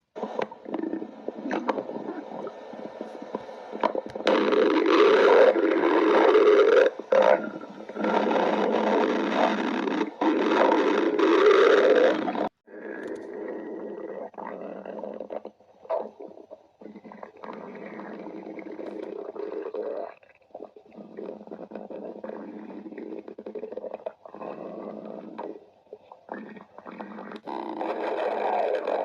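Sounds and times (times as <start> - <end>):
stomach growling: 0.0 - 29.0.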